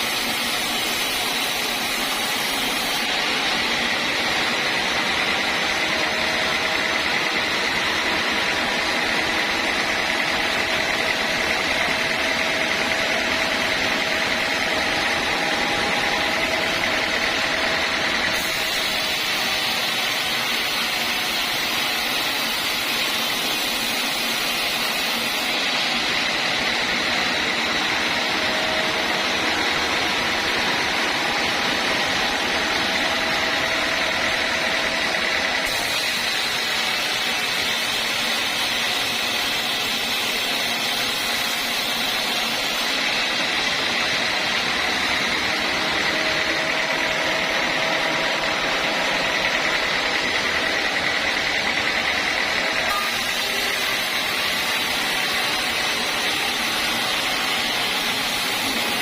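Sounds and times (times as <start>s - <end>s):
band sawmill running: 0.0s - 59.0s.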